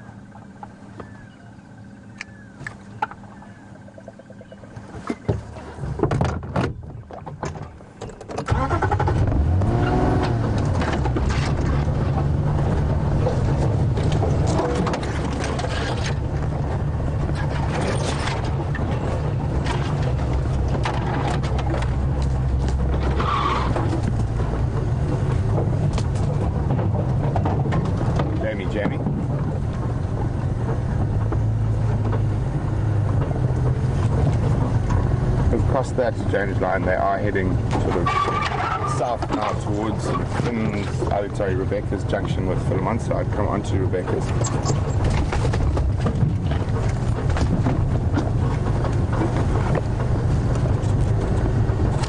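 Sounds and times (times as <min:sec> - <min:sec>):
vehicle engine running: 0:00.0 - 0:06.1, 0:07.0 - 0:52.0.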